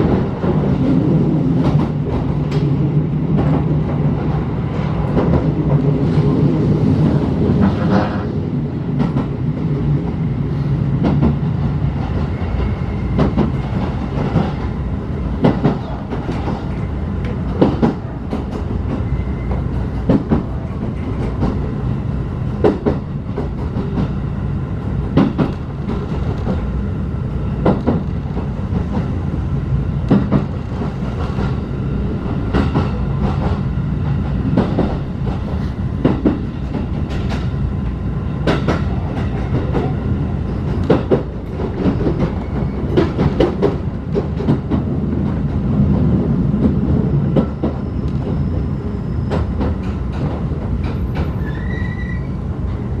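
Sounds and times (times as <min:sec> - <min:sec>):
train running rumble: 0:00.0 - 0:53.0.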